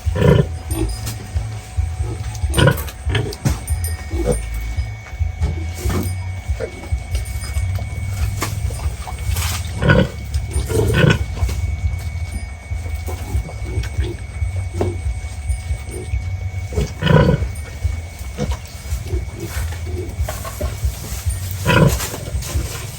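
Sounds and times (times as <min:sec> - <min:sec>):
pigs grunting: 0:00.0 - 0:22.9
steady low rumble: 0:00.0 - 0:22.9.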